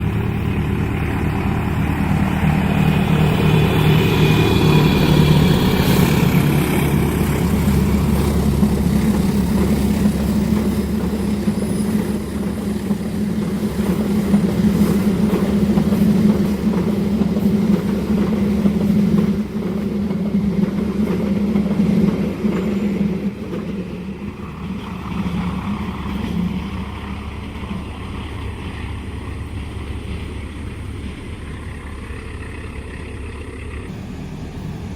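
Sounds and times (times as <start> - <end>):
diesel train passing: 0.0 - 34.9.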